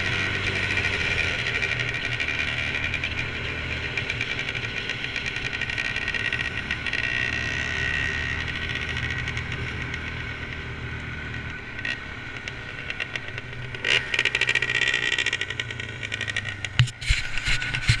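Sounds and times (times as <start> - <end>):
atv engine running: 0.0 - 18.0
road and wind noise: 0.0 - 18.0.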